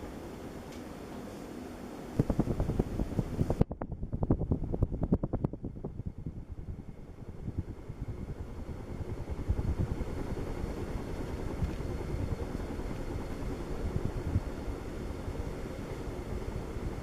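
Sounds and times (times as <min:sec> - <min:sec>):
ceiling fan air rush buffeting: 0:00.0 - 0:17.0.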